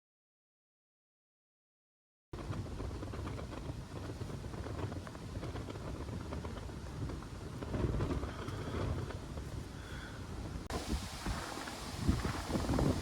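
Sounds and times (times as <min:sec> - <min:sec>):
wind buffeting microphone: 0:02.4 - 0:13.0.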